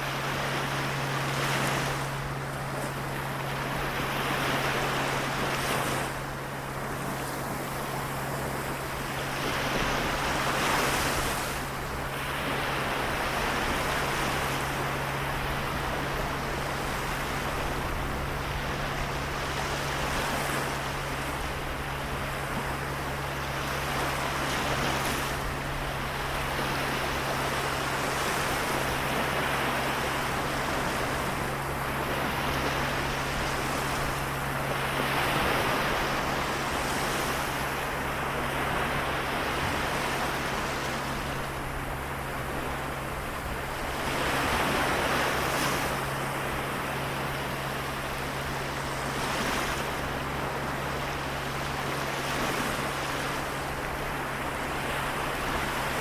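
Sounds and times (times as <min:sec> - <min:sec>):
sea waves washing in: 0:00.0 - 0:56.0
steady low hum: 0:00.0 - 0:56.0.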